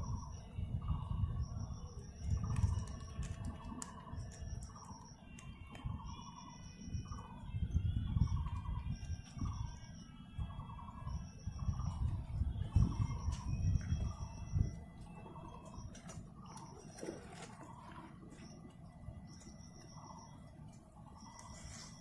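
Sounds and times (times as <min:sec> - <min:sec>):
high steady bird trill: 0:00.0 - 0:22.0
birds warbling: 0:02.2 - 0:22.0.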